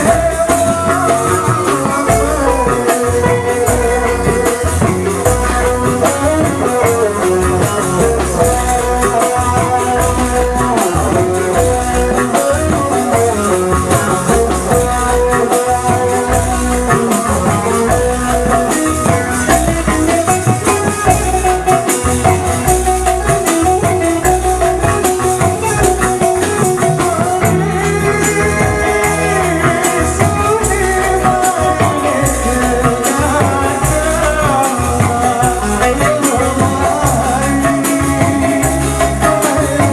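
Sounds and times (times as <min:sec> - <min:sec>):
band music through sound system: 0:00.0 - 0:39.9
rattling shaker percussion: 0:00.0 - 0:39.9
steady drum beat: 0:00.0 - 0:39.9.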